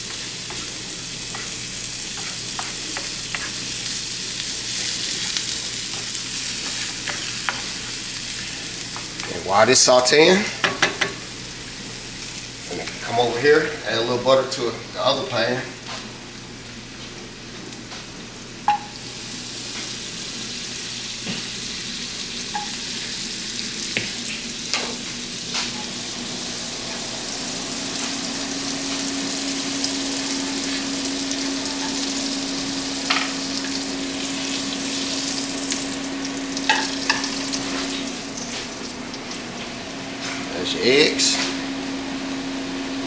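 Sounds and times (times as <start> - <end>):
vegetables sizzling in frying pans: 0.0 - 13.9, 15.9 - 42.2.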